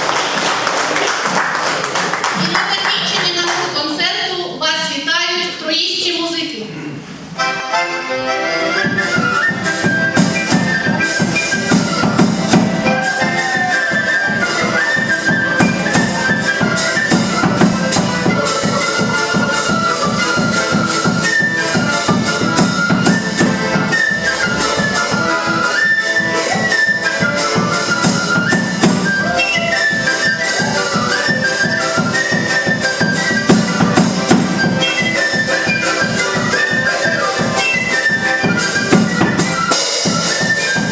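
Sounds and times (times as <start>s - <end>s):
percussion beat: 0.0s - 3.7s, 8.8s - 40.9s
woodwind melody: 7.4s - 40.9s.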